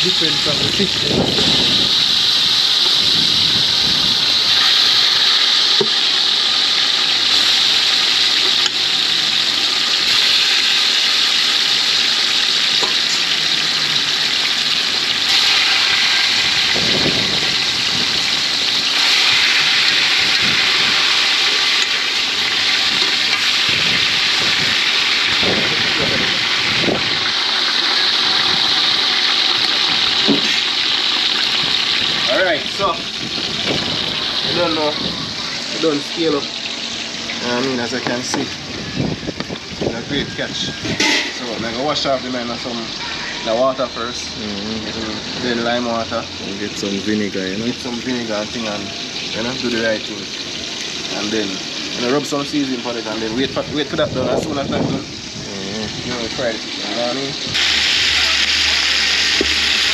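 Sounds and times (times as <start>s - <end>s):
chicken frying in hot oil: 0.0s - 59.9s.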